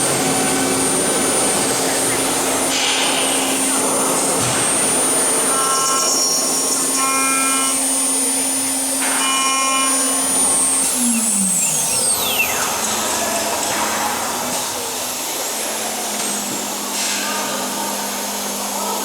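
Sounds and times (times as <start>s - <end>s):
machine spindle whining: 0.0s - 18.8s.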